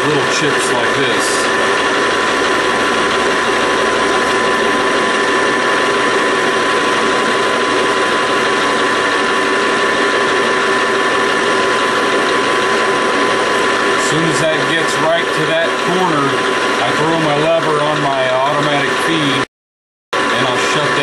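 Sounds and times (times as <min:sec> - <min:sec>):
gear whine: 0:00.0 - 0:19.4, 0:20.2 - 0:21.0
metal lathe running: 0:00.0 - 0:19.4, 0:20.2 - 0:21.0.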